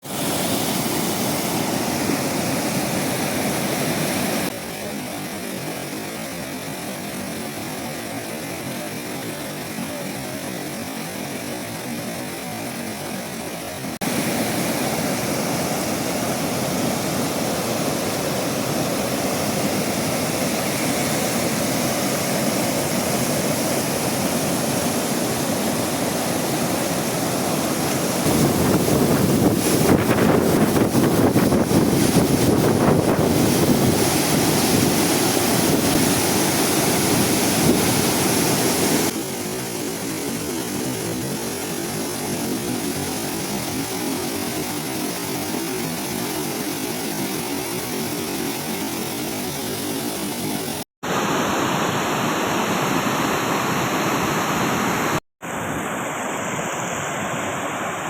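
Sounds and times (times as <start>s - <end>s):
waterfall rushing water: 0.0s - 58.0s.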